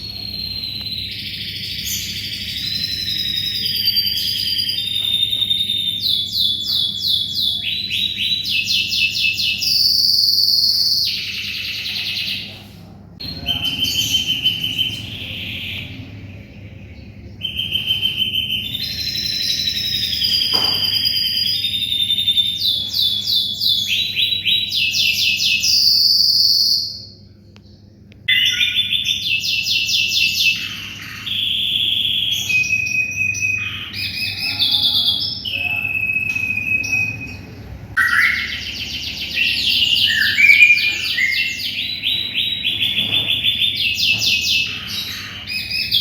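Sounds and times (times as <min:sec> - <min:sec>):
canary singing trills: 0:00.0 - 0:27.2, 0:28.3 - 0:46.0.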